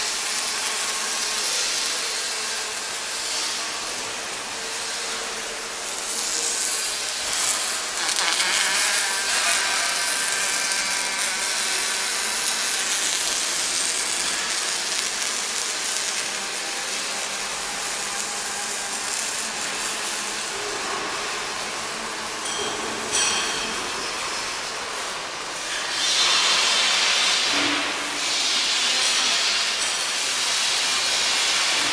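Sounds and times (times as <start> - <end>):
welding arc hissing and crackling: 0.0 - 31.9.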